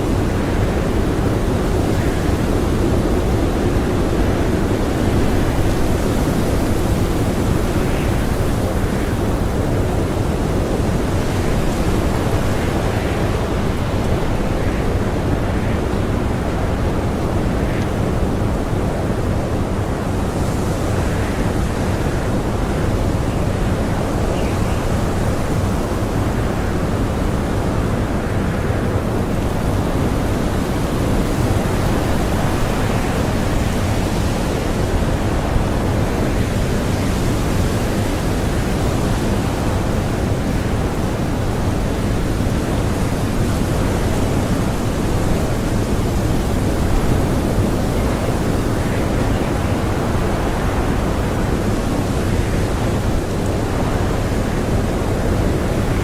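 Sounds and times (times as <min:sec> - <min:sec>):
blizzard wind blowing: 0:00.0 - 0:56.0.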